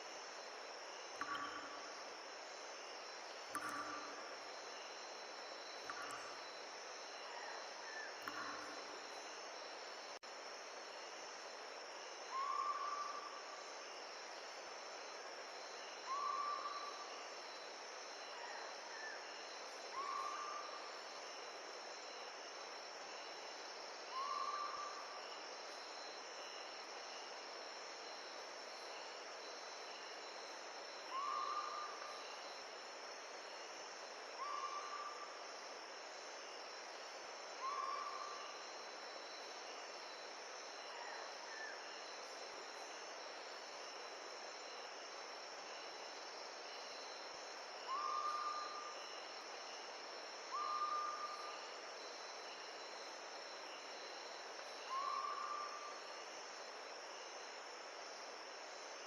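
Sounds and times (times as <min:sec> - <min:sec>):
insects trilling: 0:00.0 - 0:14.2, 0:15.0 - 0:59.0.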